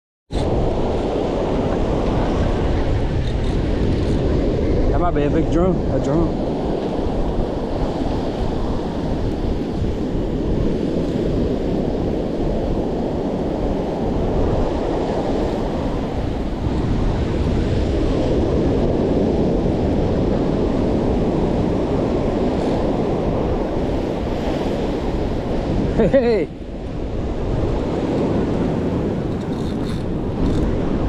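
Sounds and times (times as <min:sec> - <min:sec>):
ocean surf washing on beach: 0:00.3 - 0:31.0
wind rumbling on microphone: 0:00.3 - 0:31.0.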